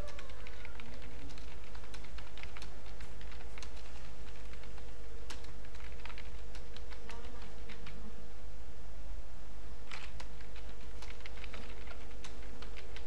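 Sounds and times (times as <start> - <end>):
keyboard typing: 0.0 - 8.1, 9.8 - 13.0
low background hum: 0.0 - 13.0.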